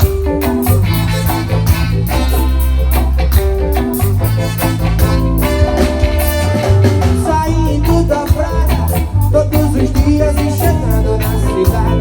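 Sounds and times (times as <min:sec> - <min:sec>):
bass line: 0:00.0 - 0:12.0
live band instrumental: 0:00.0 - 0:12.0
steady drum beat: 0:00.0 - 0:12.0.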